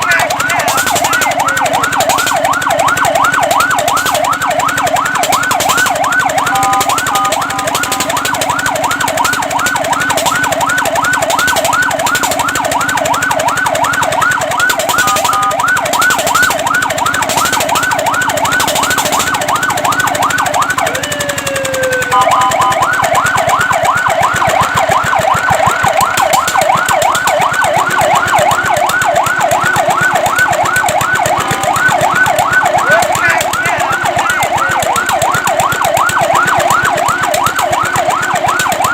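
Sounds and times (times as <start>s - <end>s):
fire truck siren yelp: 0.0s - 38.9s.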